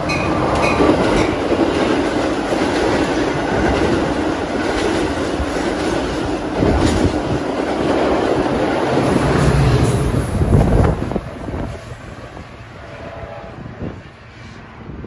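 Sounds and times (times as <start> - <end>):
train wheel and rail rush: 0.0 - 15.0.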